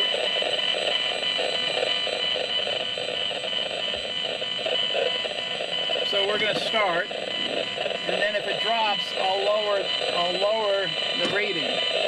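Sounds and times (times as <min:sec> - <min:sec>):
buzzing drone with flutter: 0:00.0 - 0:12.0.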